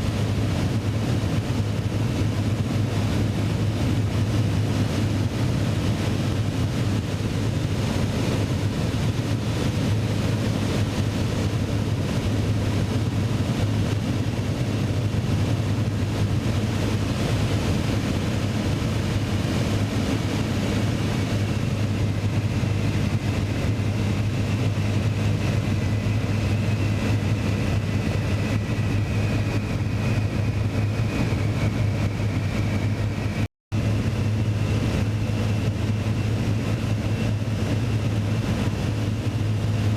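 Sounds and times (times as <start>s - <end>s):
piston aircraft engine droning: 0.0s - 39.9s.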